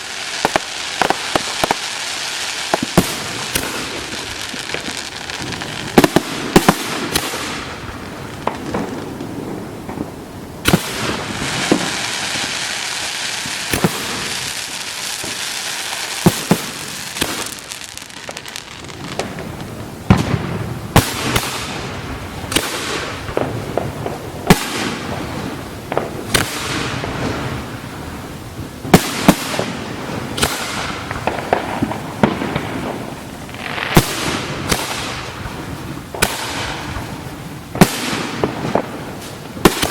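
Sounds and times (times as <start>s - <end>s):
fireworks hissing and crackling: 0.0s - 39.9s.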